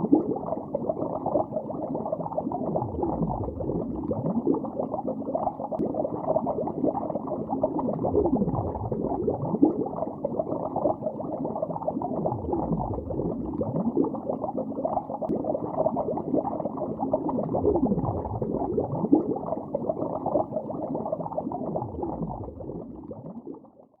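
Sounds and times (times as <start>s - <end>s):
underwater bubbling: 0.0s - 23.8s.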